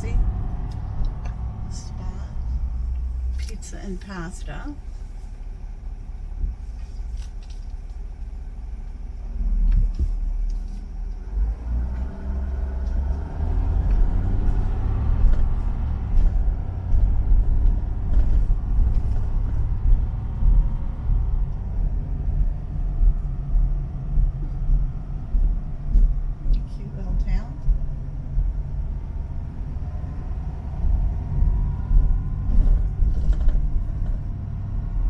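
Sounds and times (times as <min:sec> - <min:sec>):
vehicle engine and road rumble: 0:00.0 - 0:35.0.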